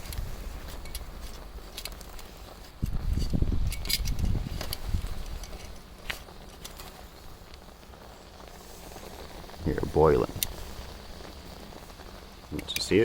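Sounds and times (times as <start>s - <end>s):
food sizzling over charcoal: 0.0s - 13.0s
sharp crackles: 0.0s - 13.0s.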